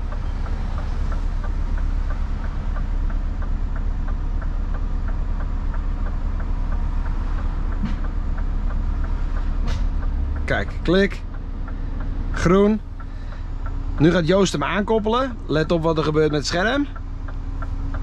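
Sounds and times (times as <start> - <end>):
diesel engine idling: 0.0 - 18.0
light regular ticking: 0.0 - 18.0.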